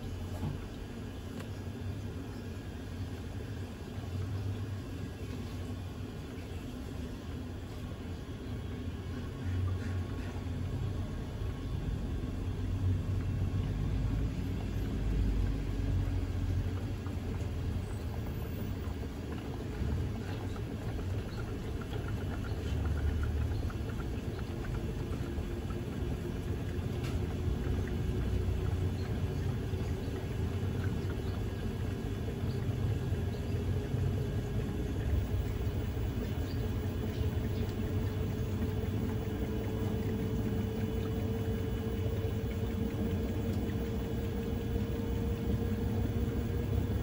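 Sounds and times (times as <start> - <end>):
faint motor whine rising: 0.0 - 47.0
washing machine tub spinning: 0.0 - 47.0.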